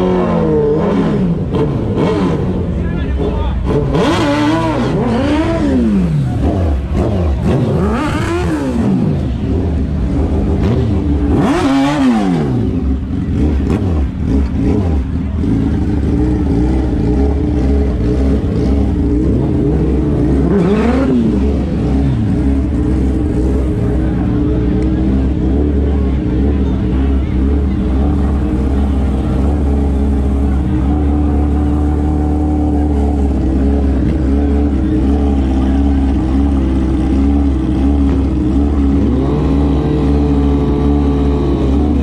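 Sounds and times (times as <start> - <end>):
motorcycle engine revving: 0.0 - 42.0
steady engine drone: 0.0 - 42.0.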